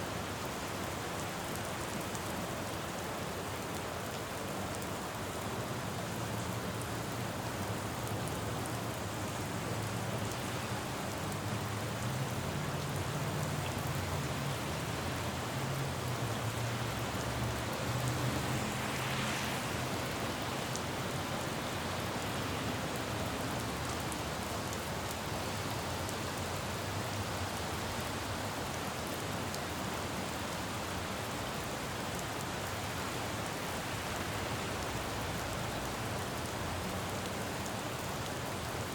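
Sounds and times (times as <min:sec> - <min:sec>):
rain falling on road: 0:00.0 - 0:38.9
vehicle passing on wet road: 0:00.2 - 0:38.9.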